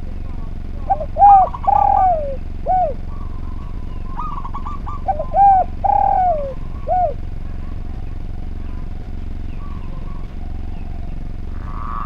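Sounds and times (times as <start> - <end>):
dove cooing: 0.0 - 12.0
steady low hum: 0.0 - 12.0.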